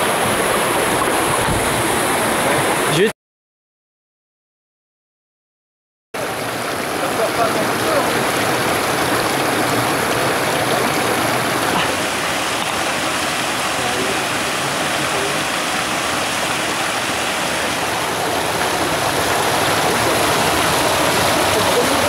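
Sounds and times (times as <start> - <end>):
stream rushing over stones: 0.0 - 3.1, 6.2 - 22.0.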